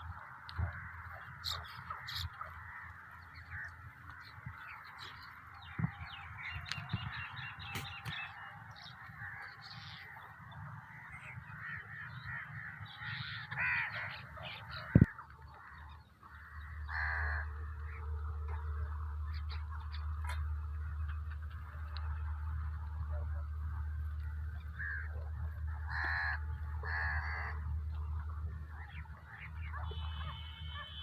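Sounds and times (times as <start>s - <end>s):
flock of birds chattering: 0.0s - 31.0s
crows cawing: 0.6s - 5.0s, 8.8s - 22.5s, 24.2s - 31.0s.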